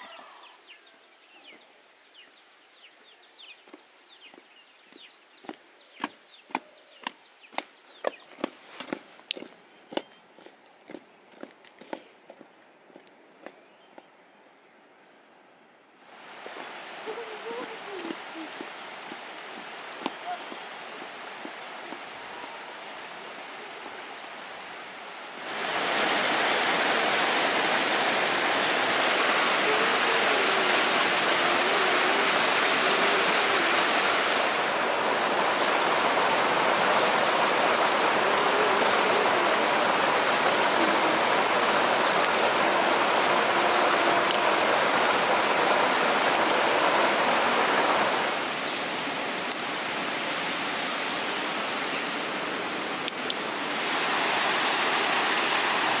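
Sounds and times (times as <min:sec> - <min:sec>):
running water rushing: 0:03.7 - 0:12.4, 0:16.0 - 0:56.0.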